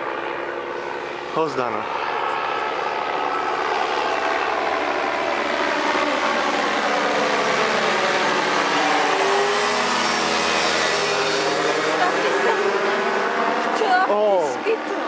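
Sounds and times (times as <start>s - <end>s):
ultralight engine and propeller overhead: 0.0s - 15.0s.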